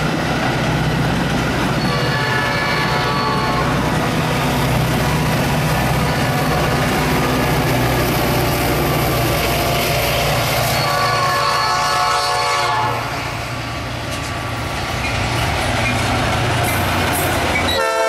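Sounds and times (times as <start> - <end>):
diesel locomotive engine running: 0.0 - 18.0
rumble of train cars: 0.0 - 18.0.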